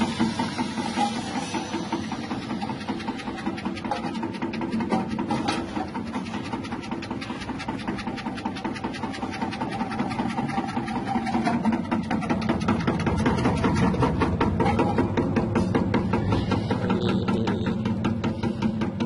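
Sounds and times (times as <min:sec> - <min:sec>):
slicing machine motor humming: 0:00.0 - 0:19.0.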